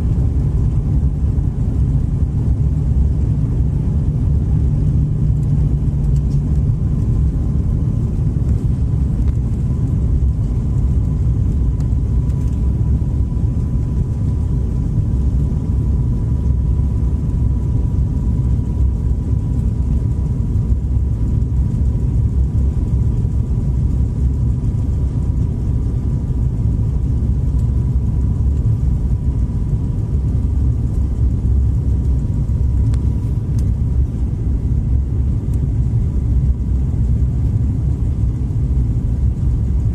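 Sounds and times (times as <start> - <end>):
airliner cabin rumble: 0.0 - 39.9
faint steady whine: 0.0 - 39.9.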